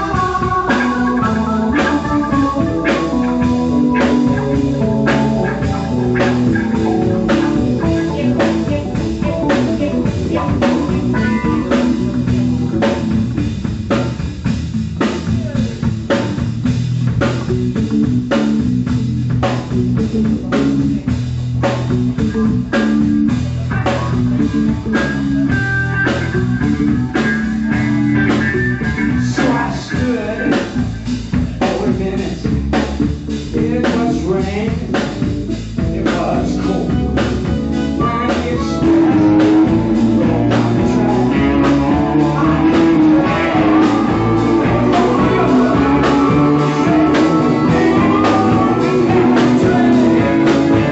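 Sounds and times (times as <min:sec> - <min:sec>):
organ: 0:00.0 - 0:14.6, 0:21.7 - 0:50.9
drum kit beat: 0:00.0 - 0:50.9
electric guitar: 0:00.0 - 0:50.9.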